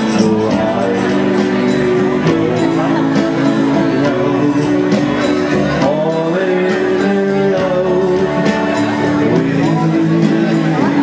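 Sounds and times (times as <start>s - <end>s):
live band music: 0.0s - 11.0s
person singing: 0.0s - 11.0s.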